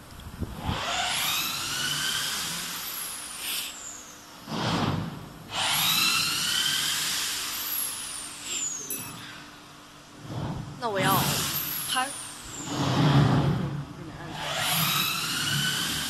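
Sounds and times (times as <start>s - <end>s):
small electric motor whining: 0.4s - 9.6s, 10.8s - 16.0s.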